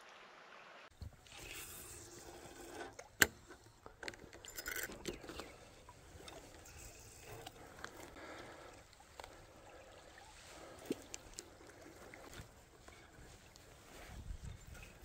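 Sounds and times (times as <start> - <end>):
faint flowing river water: 0.0 - 15.0.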